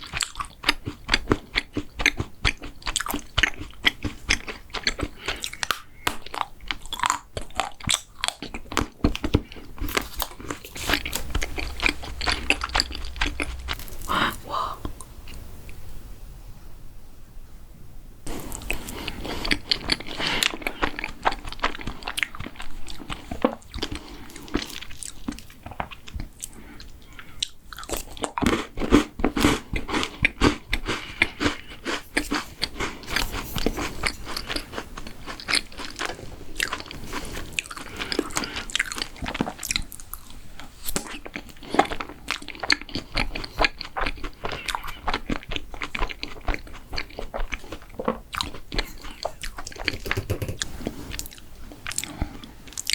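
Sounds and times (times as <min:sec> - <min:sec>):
chewing and crisp crunches: 0:00.0 - 0:15.4, 0:18.3 - 0:52.9.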